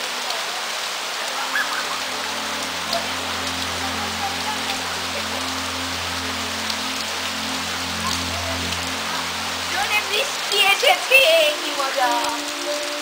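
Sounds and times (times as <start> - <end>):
close raindrop ticks: 0.0 - 13.0
heavy rain on grass and leaves: 0.0 - 13.0.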